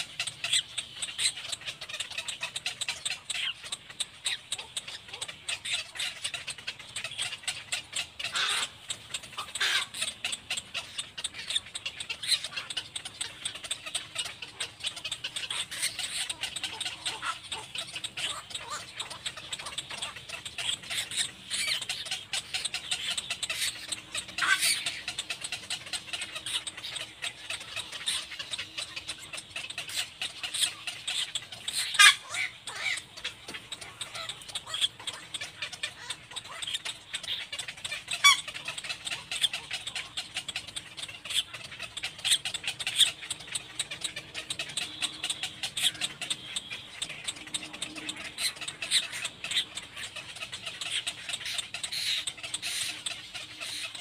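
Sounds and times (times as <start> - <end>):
cormorants squeaky calls: 0.0 - 54.0.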